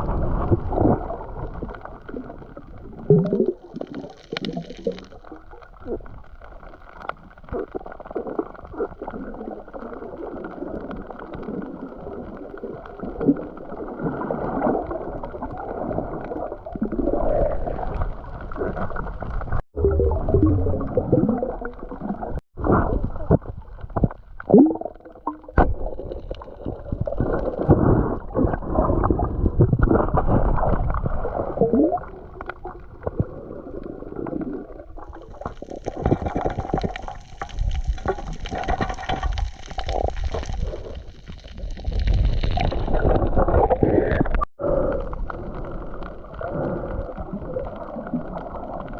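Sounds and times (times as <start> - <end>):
muffled underwater gurgling: 0.0 - 48.9.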